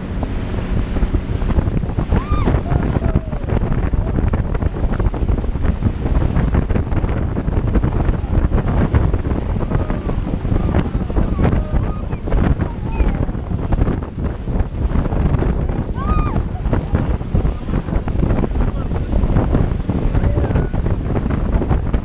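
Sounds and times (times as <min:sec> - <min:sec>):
rushing sea water: 0:00.0 - 0:22.0
wind buffeting microphone: 0:00.0 - 0:22.0.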